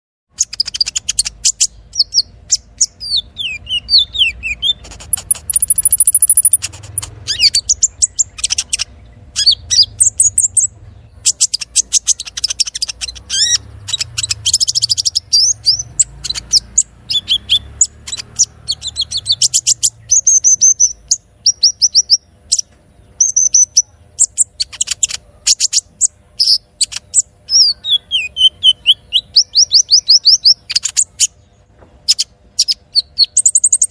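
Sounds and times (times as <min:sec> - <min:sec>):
bird singing chips and trills: 0:00.3 - 0:33.9.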